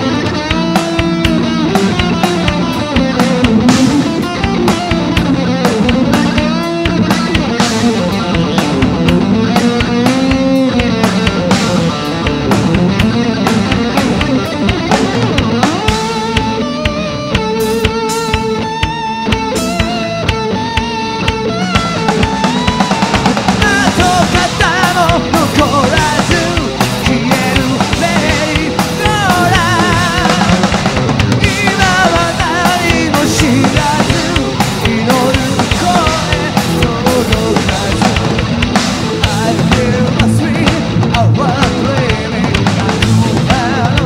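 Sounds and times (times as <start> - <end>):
drum kit beat: 0.0 - 44.0
electric guitar lead line: 0.0 - 44.0
live rock band: 0.0 - 44.0.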